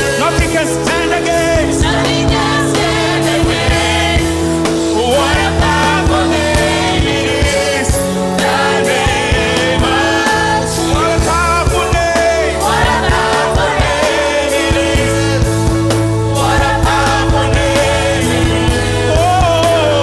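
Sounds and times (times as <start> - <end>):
band playing held chords: 0.0 - 20.0
steady drum hits: 0.0 - 20.0.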